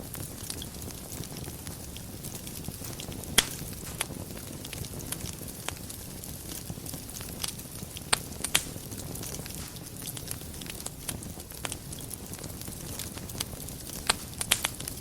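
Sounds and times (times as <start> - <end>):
fire crackling: 0.0 - 15.0
sharp pops of fire: 0.0 - 15.0
wood fire hissing: 0.0 - 15.0.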